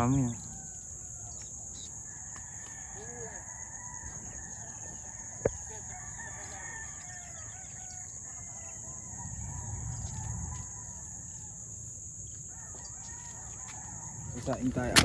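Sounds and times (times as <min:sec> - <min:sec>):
distant roosters crowing: 0:00.0 - 0:15.0
steady high-pitched hiss: 0:00.0 - 0:15.0.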